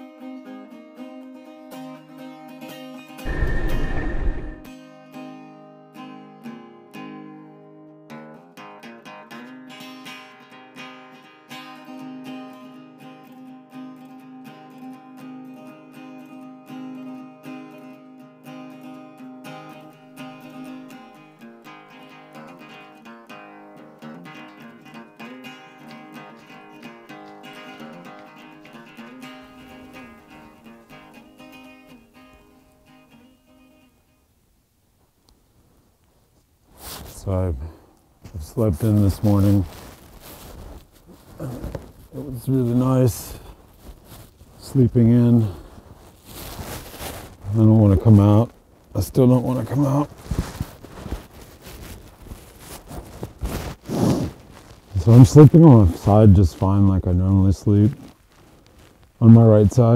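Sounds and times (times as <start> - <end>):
acoustic guitar music: 0.0 - 34.4, 38.3 - 57.9.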